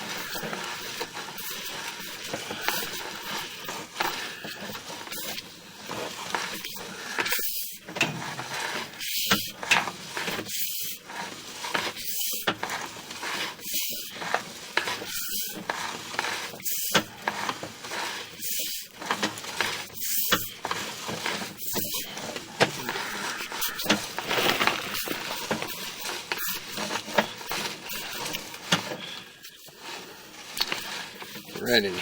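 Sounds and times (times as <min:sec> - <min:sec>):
cable scraping hiss: 0:00.0 - 0:32.0.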